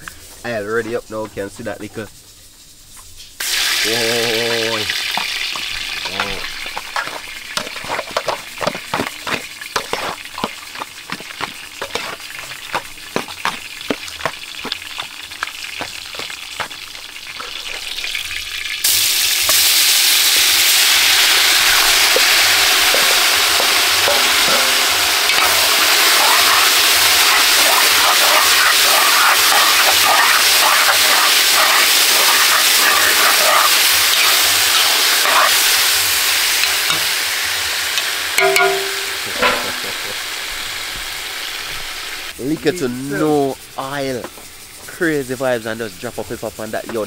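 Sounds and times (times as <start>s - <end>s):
meat sizzling in oil: 1.6s - 47.0s
oil crackling and popping: 2.9s - 47.0s.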